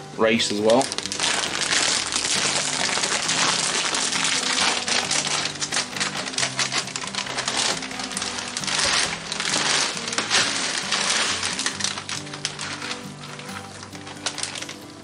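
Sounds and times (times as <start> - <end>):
plastic bag crinkling: 0.3 - 15.0
crackly clicks: 0.6 - 15.0.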